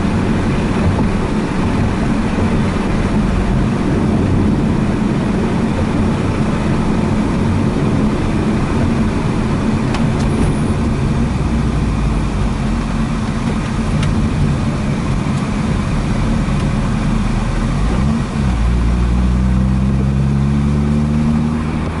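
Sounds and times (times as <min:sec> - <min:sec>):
heavy wind noise: 0:00.0 - 0:18.9
rotary engine revving: 0:00.0 - 0:22.0.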